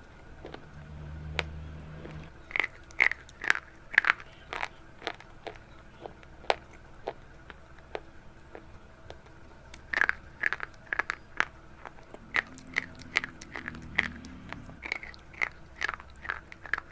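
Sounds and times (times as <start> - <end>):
brittle crunching and crackling: 2.5 - 16.9.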